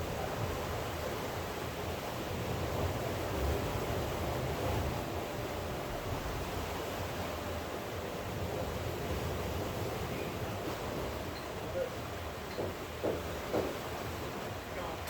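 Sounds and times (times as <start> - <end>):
rain: 0.0 - 15.0
sea surf: 0.0 - 15.0.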